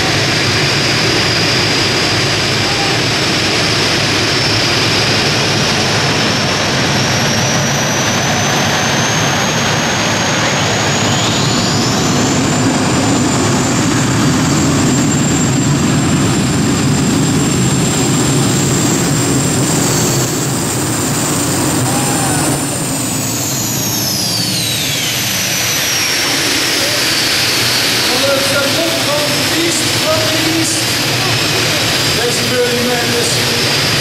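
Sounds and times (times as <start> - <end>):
turbine engines whining: 0.0 - 34.0.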